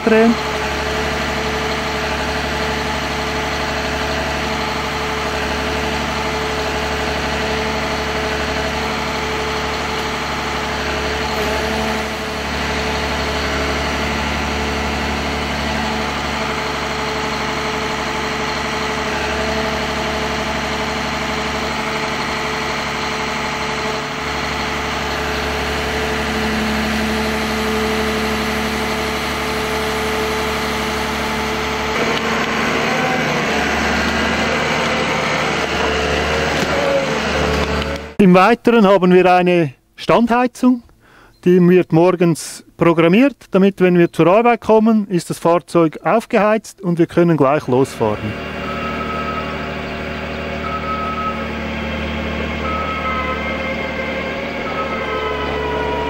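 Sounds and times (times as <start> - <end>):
diesel engine running steadily: 0.0 - 38.2, 47.6 - 56.0.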